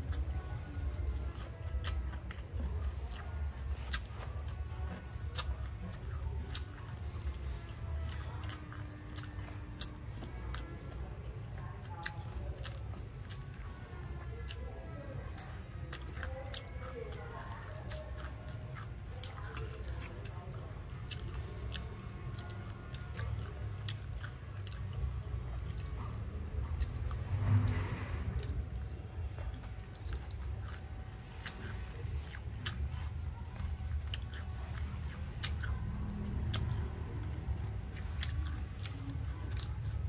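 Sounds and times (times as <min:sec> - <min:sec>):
crunchy chewing and biting: 0:00.0 - 0:40.0.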